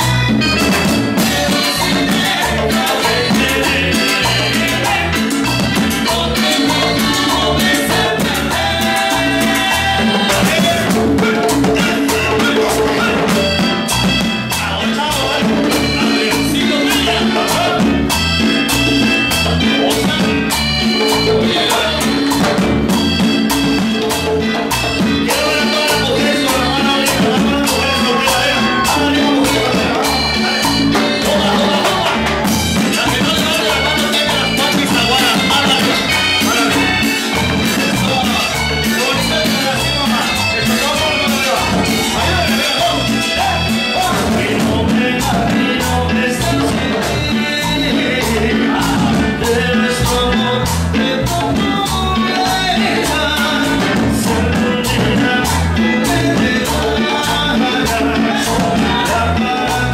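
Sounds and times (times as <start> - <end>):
latin dance music with bass beat: 0.0 - 59.9
salsa band playing: 0.0 - 59.9.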